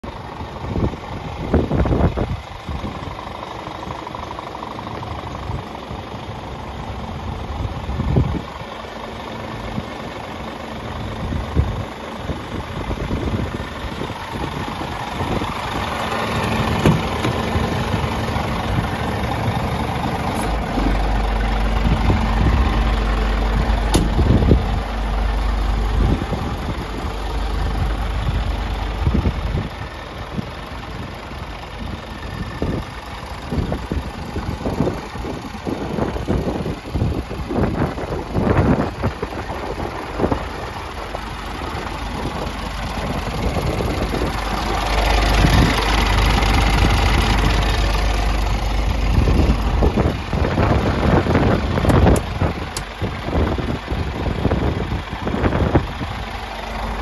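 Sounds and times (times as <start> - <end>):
diesel truck engine idling: 0.0 - 57.0
irregular low rumbles: 11.0 - 57.0.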